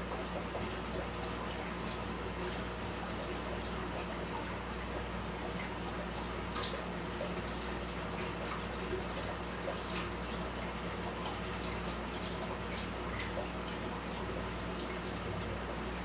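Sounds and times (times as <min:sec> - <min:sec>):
aquarium water bubbling: 0:00.0 - 0:16.0
low steady hum: 0:00.0 - 0:16.0.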